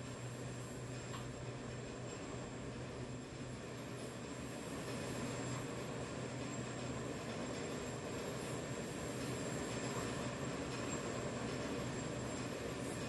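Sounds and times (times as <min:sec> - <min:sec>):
faint high machine whine: 0:00.0 - 0:13.0
machine clatter and hum: 0:00.0 - 0:13.0.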